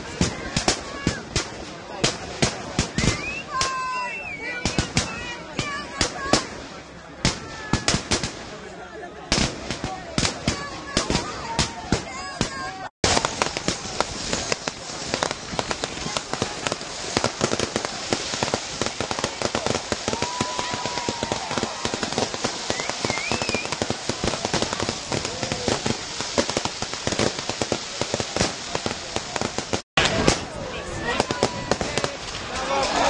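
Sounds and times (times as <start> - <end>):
fireworks crackling and popping: 0.0 - 33.0.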